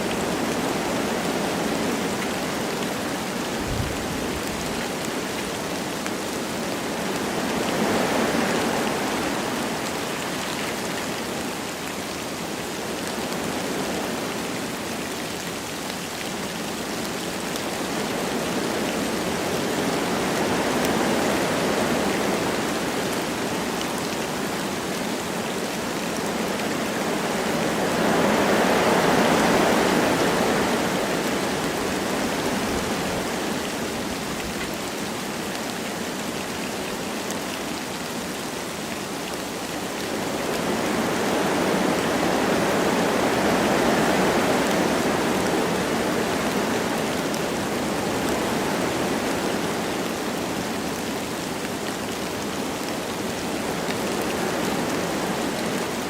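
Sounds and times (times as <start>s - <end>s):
light rain falling: 0.0s - 56.0s
wind blowing through trees: 0.0s - 56.0s.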